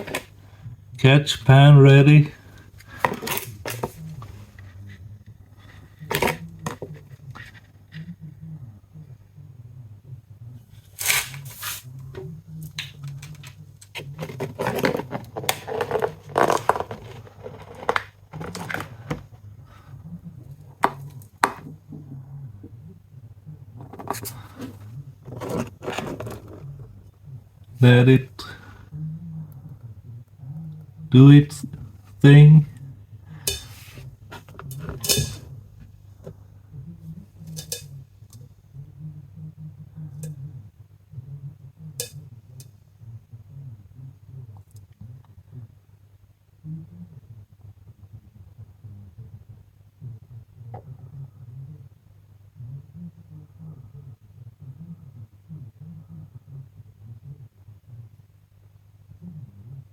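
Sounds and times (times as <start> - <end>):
faint low hum: 0.0 - 59.9.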